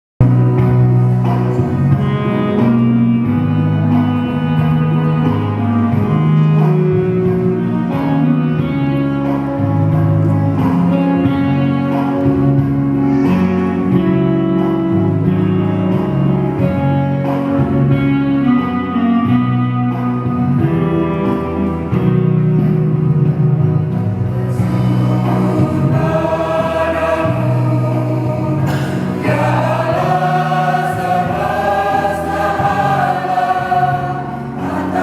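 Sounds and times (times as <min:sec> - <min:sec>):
slow music with held notes: 0:00.2 - 0:35.0.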